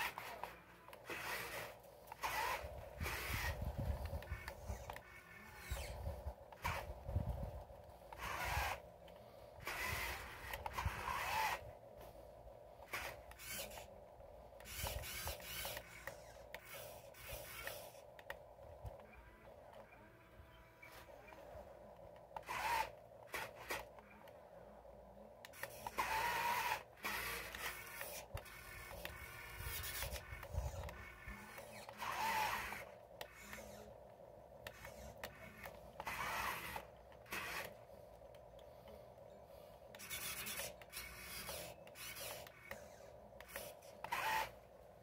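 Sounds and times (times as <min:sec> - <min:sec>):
toy electric motors whirring: 0:00.0 - 0:45.0.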